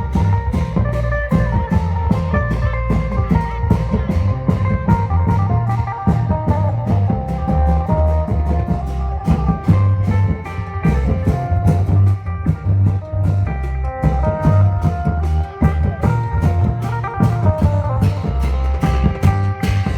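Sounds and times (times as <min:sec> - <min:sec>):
drums and cymbals beat: 0:00.0 - 0:19.9
plucked guitar-like melody: 0:00.0 - 0:19.9.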